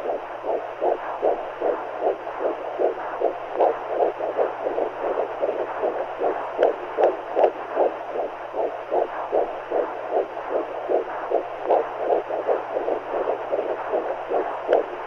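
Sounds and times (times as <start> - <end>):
white noise hiss: 0.0 - 15.0
whooshing heartbeat pulses: 0.0 - 15.0.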